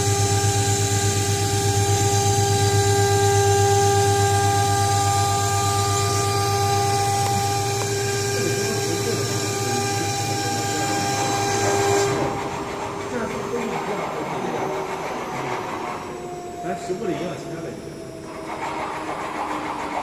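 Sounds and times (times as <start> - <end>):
cnc spindle whining: 0.0 - 20.0
low pulsing hum: 0.0 - 20.0.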